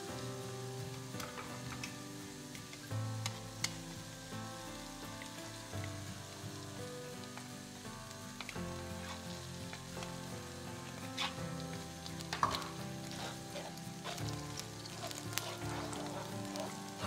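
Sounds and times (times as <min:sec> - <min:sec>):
food sizzling in oil: 0:00.0 - 0:17.0
spatula stirring in pan: 0:00.0 - 0:17.0.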